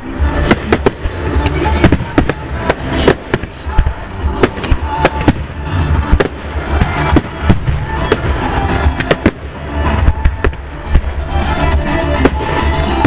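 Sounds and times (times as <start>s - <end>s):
music playing: 0.0s - 13.0s.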